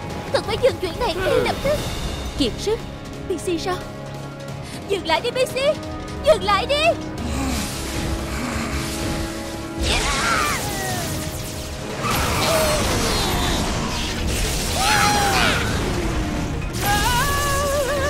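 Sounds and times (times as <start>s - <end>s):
cartoon background music: 0.0s - 18.0s.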